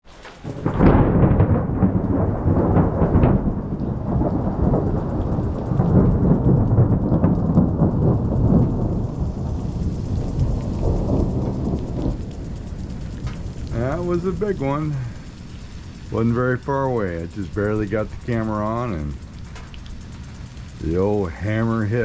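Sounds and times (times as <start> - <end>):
thunder crash and rumble: 0.4 - 22.0.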